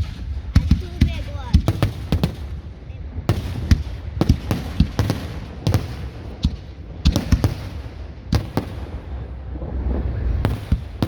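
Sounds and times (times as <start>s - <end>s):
fireworks exploding: 0.0s - 11.0s
low continuous rumble: 0.0s - 11.0s.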